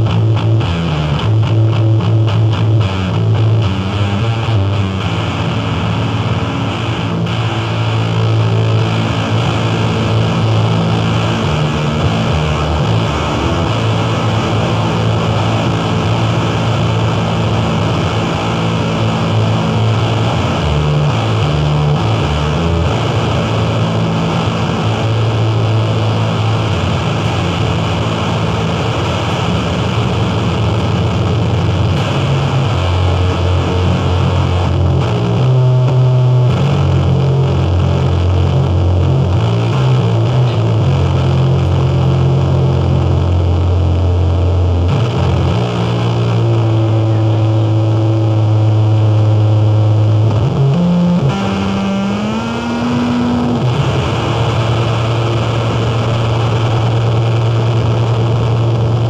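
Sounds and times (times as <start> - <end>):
distorted noise music: 0.0 - 59.0
low drone: 0.0 - 59.0.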